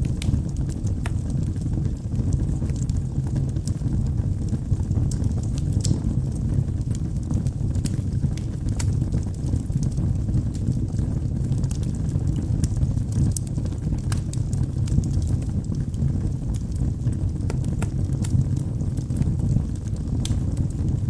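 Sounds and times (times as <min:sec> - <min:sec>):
fire burning low rumble: 0:00.0 - 0:21.0
logs crackling and popping: 0:00.0 - 0:21.0.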